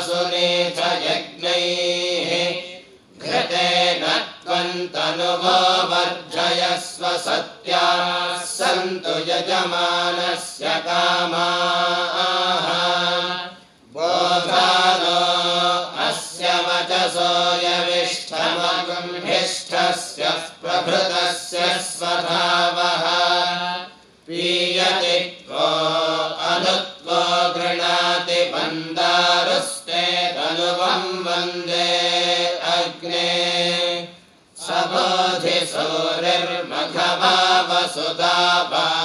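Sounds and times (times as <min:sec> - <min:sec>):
group chanting mantras: 0:00.0 - 0:39.0.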